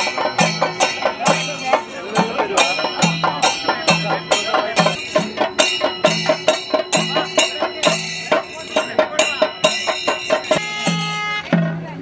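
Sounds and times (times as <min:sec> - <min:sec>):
ringing metal cymbals: 0:00.0 - 0:11.7
temple drum strokes: 0:00.0 - 0:12.0.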